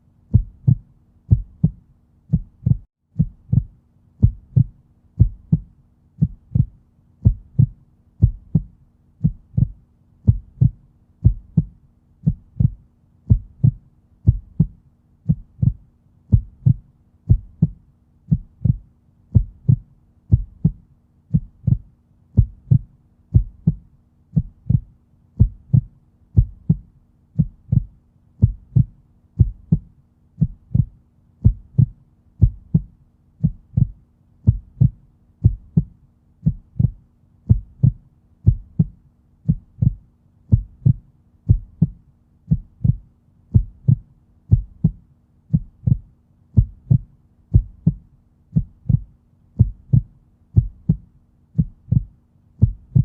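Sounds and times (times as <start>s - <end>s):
heartbeat thumps: 0.3s - 53.0s.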